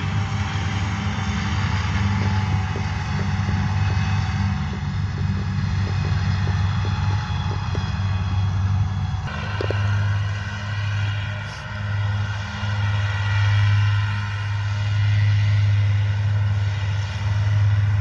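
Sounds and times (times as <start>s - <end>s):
mower engine drone: 0.0s - 18.0s.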